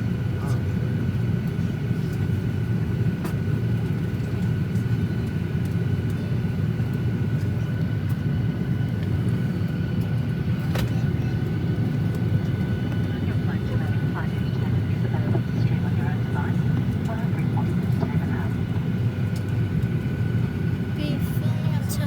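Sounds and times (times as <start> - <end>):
airplane cabin rumble: 0.0 - 22.0
faint steady whine: 0.0 - 22.0.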